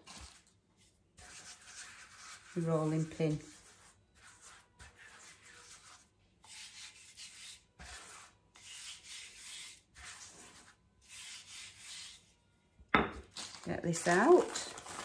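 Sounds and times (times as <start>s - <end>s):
hands rubbing wooden rolling pin: 0.1s - 12.3s.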